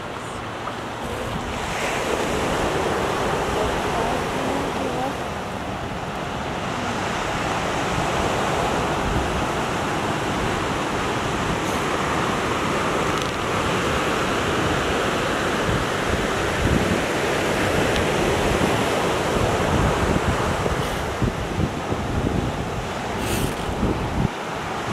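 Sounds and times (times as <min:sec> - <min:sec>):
ocean surf on beach: 0:00.0 - 0:24.9
wind buffeting microphone: 0:00.0 - 0:24.9.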